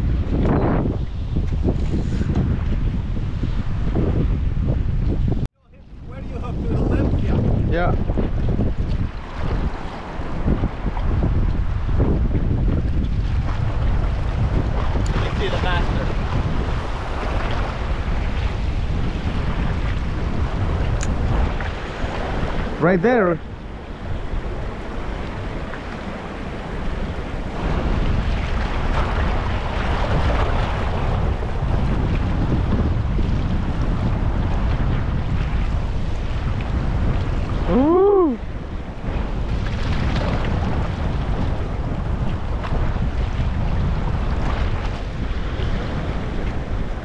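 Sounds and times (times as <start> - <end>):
surf washing: 0.0 - 47.0
wind buffeting microphone: 0.0 - 47.0.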